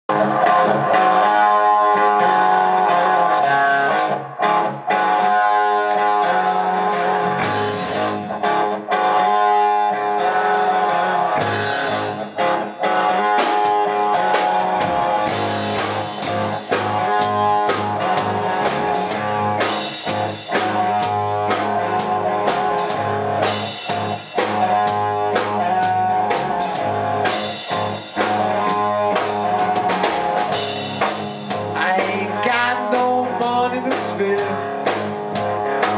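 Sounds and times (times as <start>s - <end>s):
drums: 0.0s - 35.9s
electric guitar: 0.0s - 35.9s
rock band playing: 0.0s - 35.9s.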